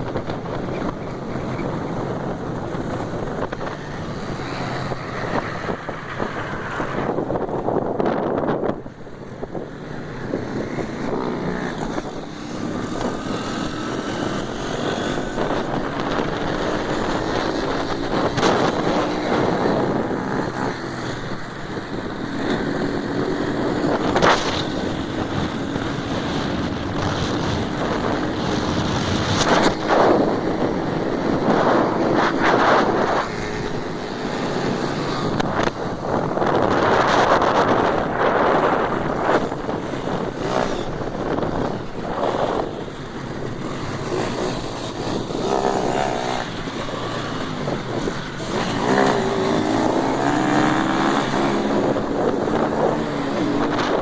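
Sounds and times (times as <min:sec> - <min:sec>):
wind buffeting microphone: 0:00.0 - 0:54.0
motorcycle engine revving: 0:09.6 - 0:54.0.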